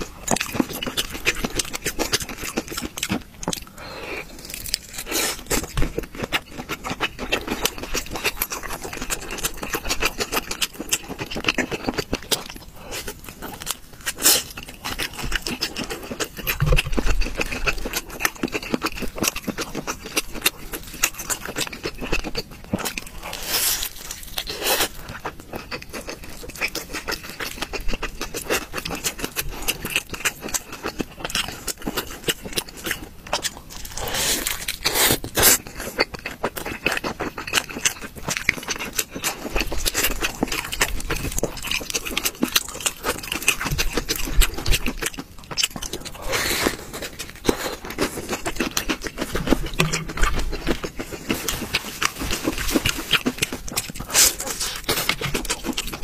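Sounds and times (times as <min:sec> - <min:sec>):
person chewing and smacking food: 0:00.0 - 0:56.0.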